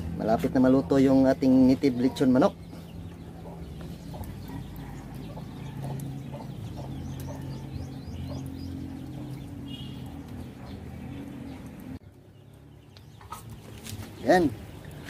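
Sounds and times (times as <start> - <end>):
chickens clucking: 0.2 - 12.0, 12.9 - 14.1.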